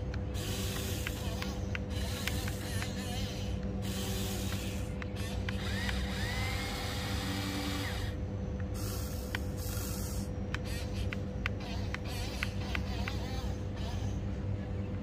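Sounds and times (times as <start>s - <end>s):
toy motors and gears whirring: 0.0s - 14.4s
thin whine: 0.0s - 15.0s.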